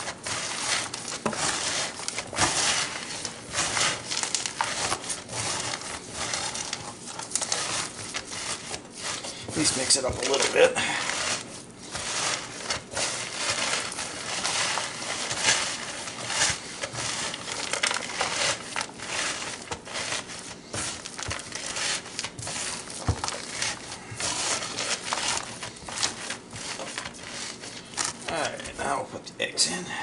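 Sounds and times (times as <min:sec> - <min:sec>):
rubber gloves crinkling: 0:00.0 - 0:28.8
squishing of kneaded meat: 0:00.0 - 0:28.9.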